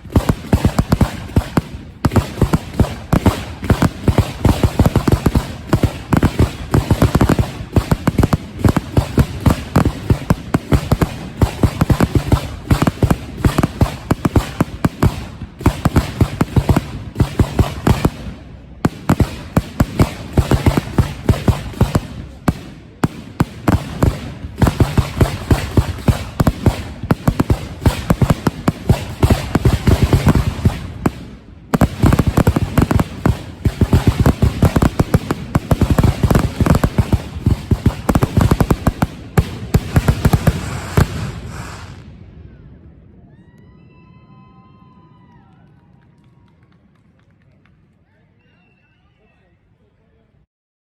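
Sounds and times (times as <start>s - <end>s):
fireworks bursting rapidly: 0.0s - 42.3s.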